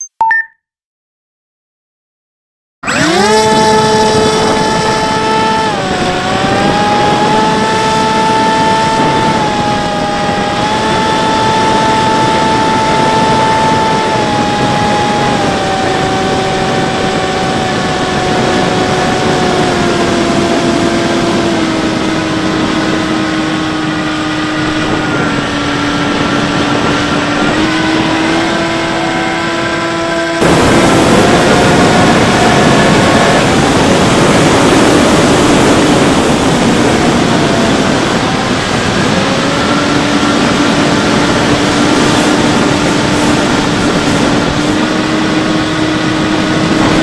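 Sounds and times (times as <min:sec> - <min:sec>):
electric motor whine: 0:02.8 - 0:47.0
wind rush: 0:03.0 - 0:47.0.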